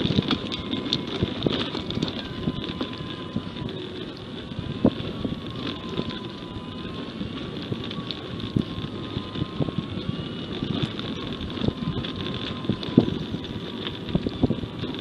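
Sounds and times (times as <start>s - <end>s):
faint wavering whine: 0.0s - 15.0s
wind buffeting microphone: 0.0s - 15.0s.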